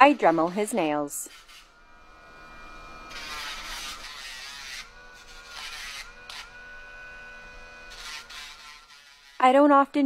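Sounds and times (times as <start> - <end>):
rotary tool grinding toenails: 0.0 - 10.0.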